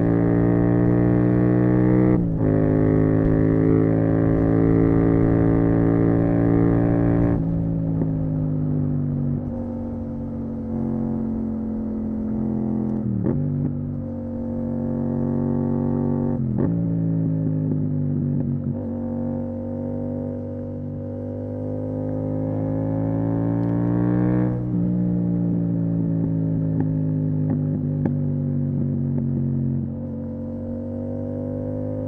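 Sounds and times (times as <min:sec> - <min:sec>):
motorcycle engine while riding: 0:00.0 - 0:32.0.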